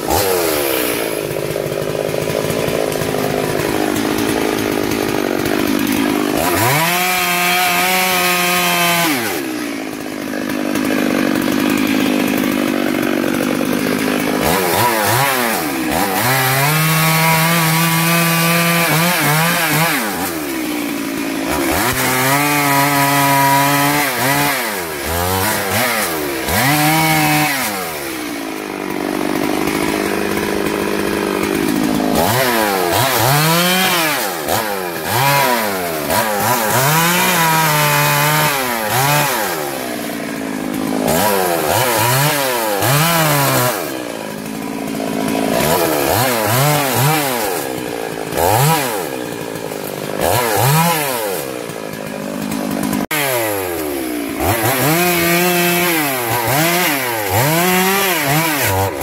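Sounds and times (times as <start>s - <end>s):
chainsaw cutting and revving: 0.0s - 59.0s.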